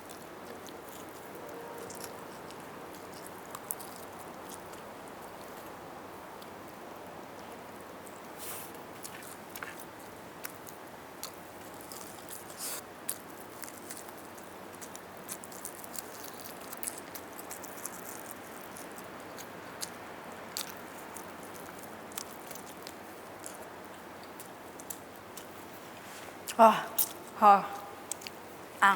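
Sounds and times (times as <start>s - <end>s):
chewing: 0.0s - 5.8s, 7.4s - 28.6s.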